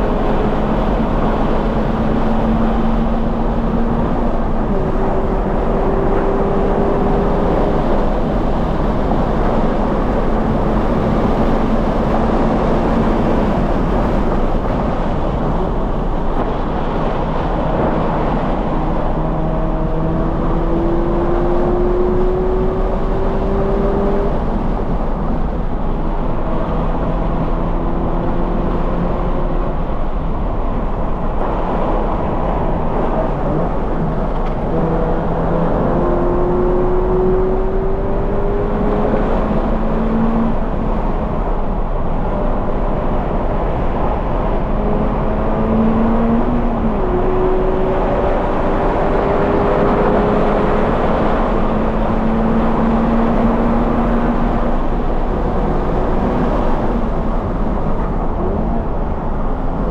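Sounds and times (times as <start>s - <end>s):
car engine accelerating: 0.0s - 59.9s
wind noise: 0.0s - 59.9s.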